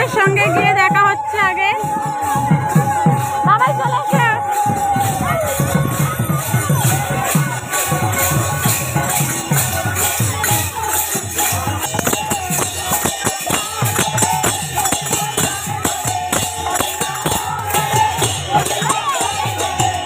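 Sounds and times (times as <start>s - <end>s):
drum beaten in quick rhythm: 0.0s - 20.0s
group of voices chanting: 0.0s - 20.0s
jingling hand cymbals: 0.0s - 20.0s.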